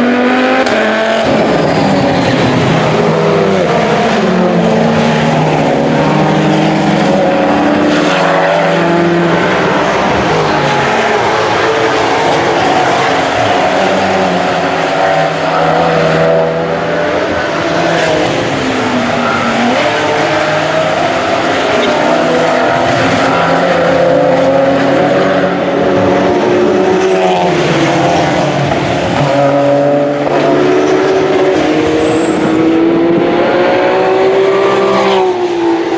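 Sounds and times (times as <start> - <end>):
race car engines passing: 0.0 - 35.9.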